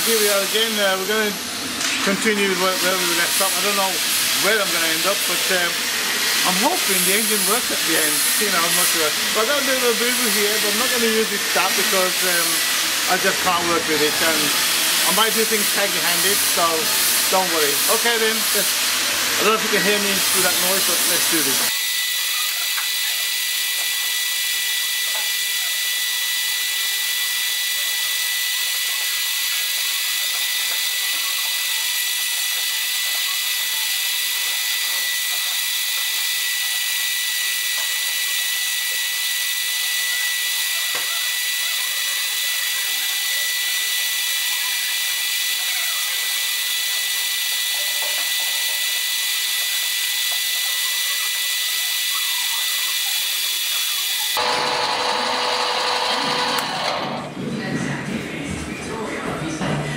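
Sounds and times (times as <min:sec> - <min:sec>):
tool cutting brass bar: 0:00.0 - 0:57.2
lathe whining: 0:00.0 - 0:57.3.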